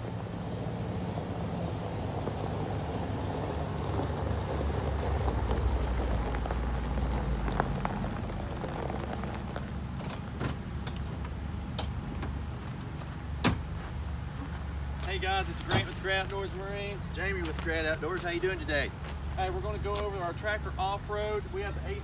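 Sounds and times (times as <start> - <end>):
low engine hum: 0.0 - 22.0
tyres crunching on gravel: 0.0 - 22.0.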